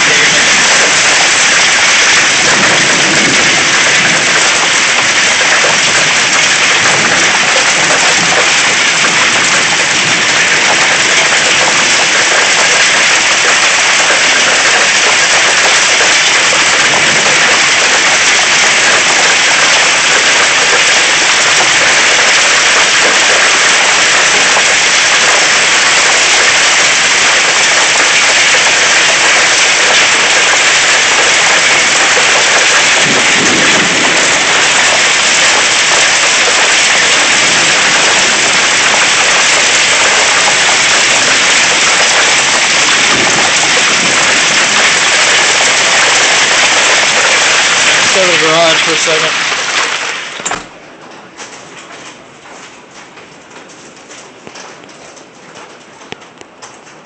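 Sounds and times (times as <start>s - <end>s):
heavy rain pouring: 0.0s - 52.2s.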